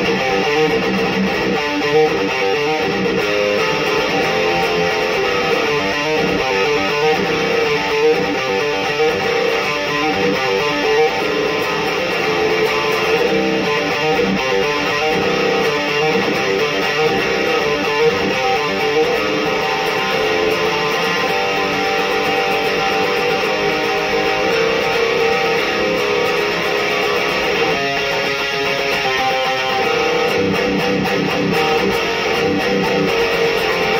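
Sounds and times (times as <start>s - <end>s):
distorted electric guitar riff: 0.0s - 33.9s.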